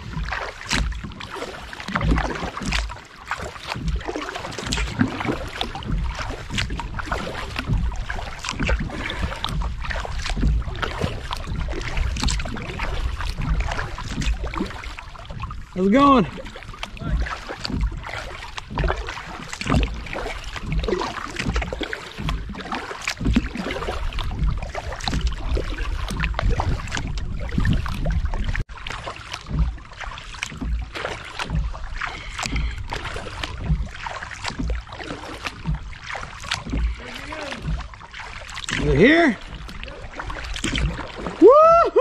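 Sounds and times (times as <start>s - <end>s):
paddle strokes in water: 0.0s - 42.0s
water dripping off paddle: 0.0s - 42.0s.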